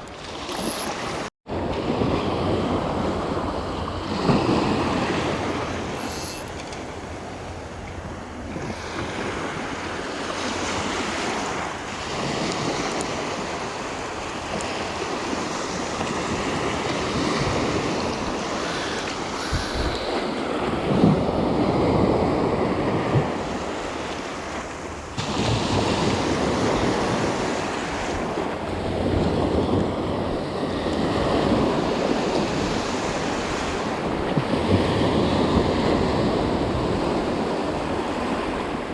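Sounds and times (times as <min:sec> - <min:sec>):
sea waves washing ashore: 0:00.0 - 0:38.9
wind buffeting microphone: 0:00.0 - 0:38.9.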